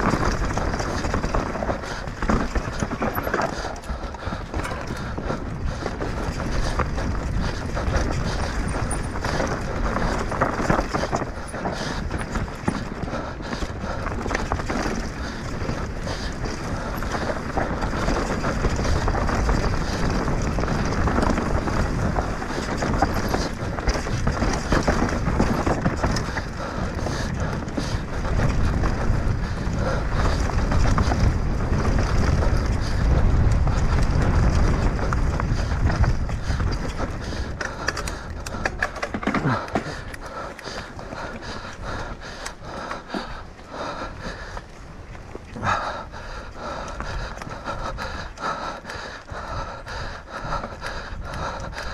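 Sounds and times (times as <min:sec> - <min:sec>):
bike knocking and rattling: 0:00.0 - 0:51.9
tyres rolling over dirt: 0:00.0 - 0:51.9
wind buffeting microphone: 0:00.0 - 0:51.9.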